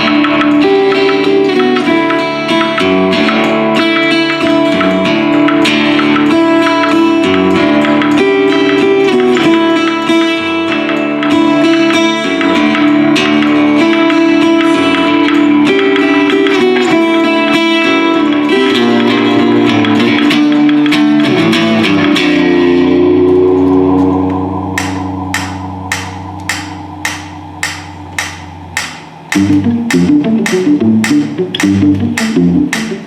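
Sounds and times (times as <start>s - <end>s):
plucked-string instrumental music: 0.0s - 33.0s.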